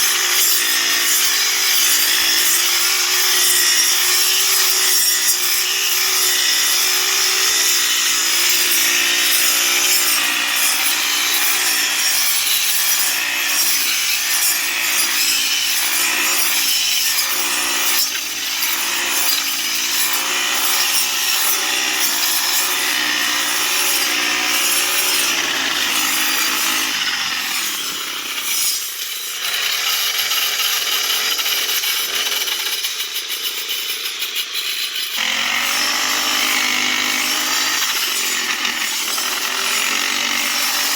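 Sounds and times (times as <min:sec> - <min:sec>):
loud rasping grass cutting: 0:00.0 - 0:40.9.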